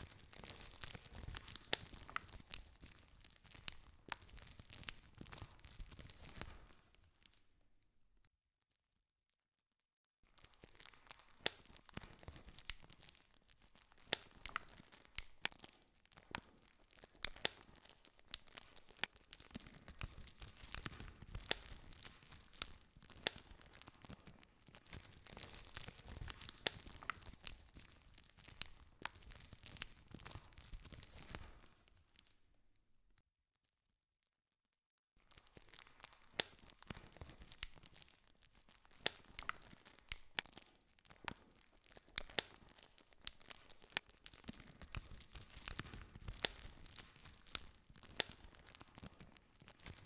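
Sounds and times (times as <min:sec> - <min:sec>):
campfire crackling: 0:00.0 - 0:07.2, 0:10.4 - 0:32.0, 0:35.3 - 0:50.0.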